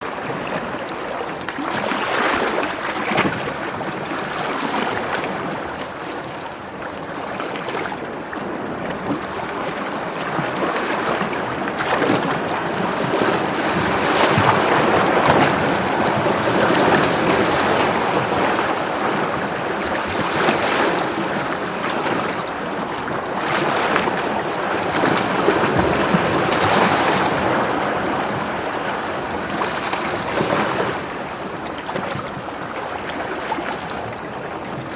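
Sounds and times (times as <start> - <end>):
sea waves washing: 0.0 - 34.9.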